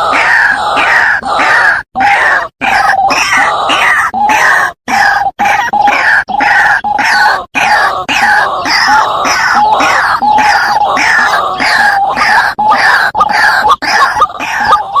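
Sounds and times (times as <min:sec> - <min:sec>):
waterhen harsh croaking calls: 0:00.0 - 0:15.0.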